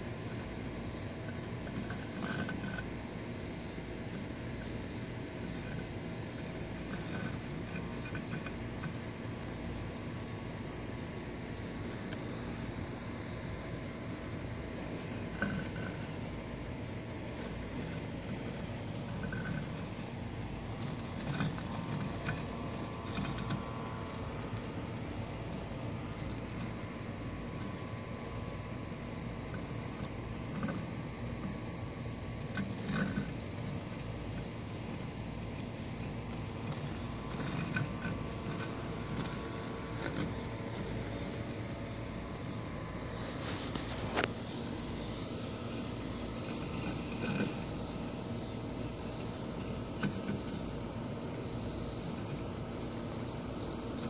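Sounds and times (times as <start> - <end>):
insects chirping: 0.0 - 54.0
robotic lawn mower motor whine: 0.0 - 54.0.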